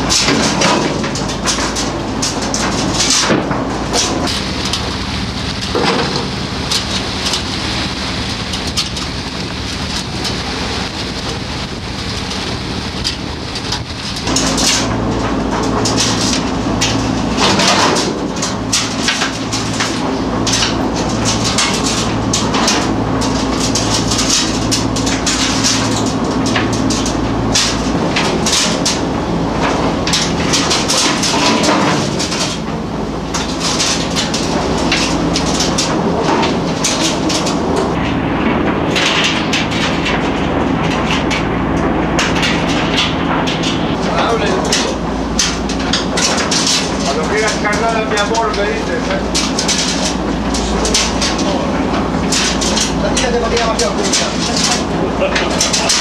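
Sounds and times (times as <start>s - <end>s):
boat engine and deck machinery: 0.0s - 56.0s
net gear clattering: 8.6s - 56.0s.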